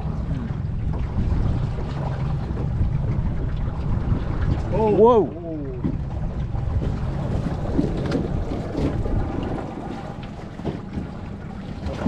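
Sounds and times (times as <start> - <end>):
water moving around boat: 0.0 - 12.0
wind buffeting microphone: 0.0 - 12.0.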